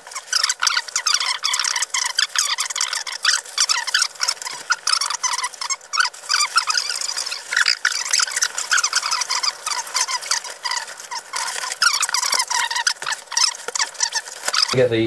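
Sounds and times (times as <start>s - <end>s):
plastic bags crinkling: 0.0s - 14.8s.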